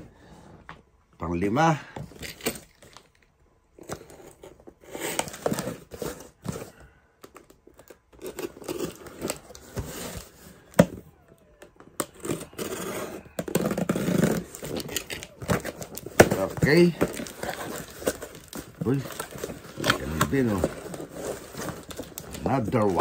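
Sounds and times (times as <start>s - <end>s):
cardboard rustling: 3.8s - 23.0s
packing tape tearing: 3.8s - 23.0s.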